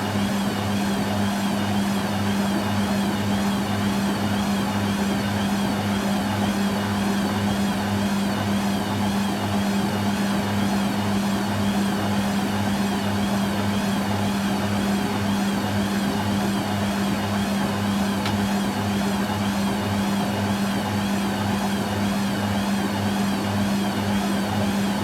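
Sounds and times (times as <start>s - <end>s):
washing machine motor humming: 0.0s - 25.0s.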